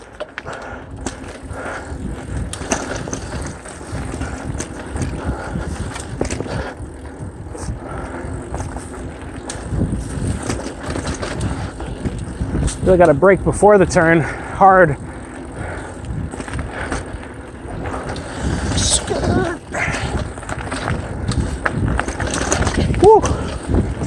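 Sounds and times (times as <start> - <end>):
bike rattling over bumps: 0.0 - 24.0
bike tyres rumbling on dirt: 0.0 - 24.0.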